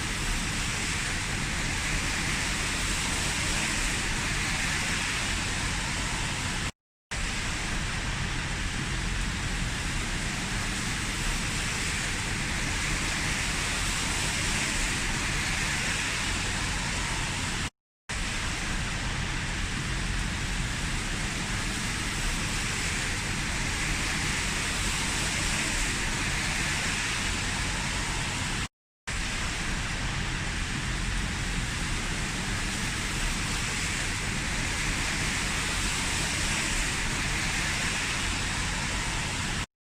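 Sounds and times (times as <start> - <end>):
heavy rain falling: 0.0 - 39.7.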